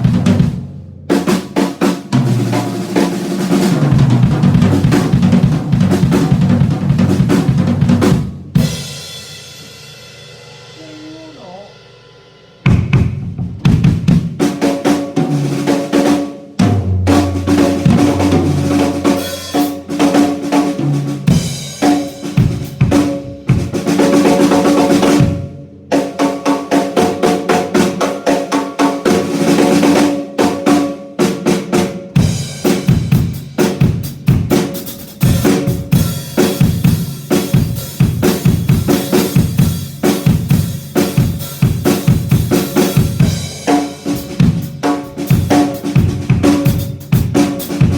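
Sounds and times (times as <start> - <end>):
drum kit playing grooves: 0.0 - 47.9.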